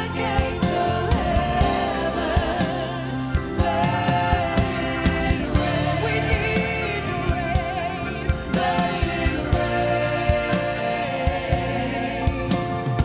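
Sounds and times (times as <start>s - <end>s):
live band playing: 0.0s - 13.0s
steady drum beat: 0.0s - 13.0s
woman singing gospel: 0.0s - 13.0s.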